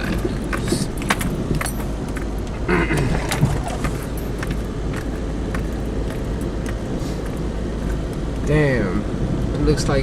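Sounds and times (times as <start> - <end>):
light clicks and rattles: 0.0 - 8.5
road and engine rumble: 0.0 - 10.0.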